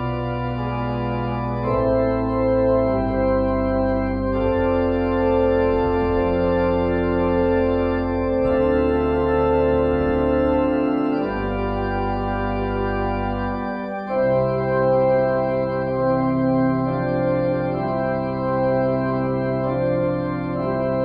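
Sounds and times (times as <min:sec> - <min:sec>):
organ chords: 0:00.0 - 0:21.0.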